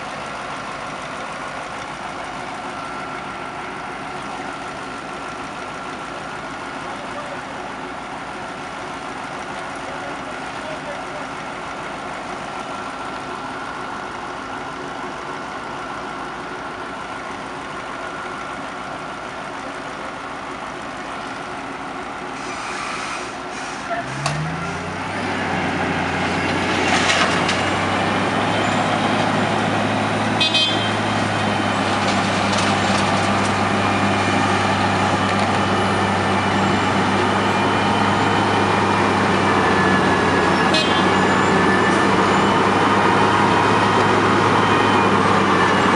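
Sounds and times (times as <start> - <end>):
heavy diesel engines running: 0.0 - 45.9.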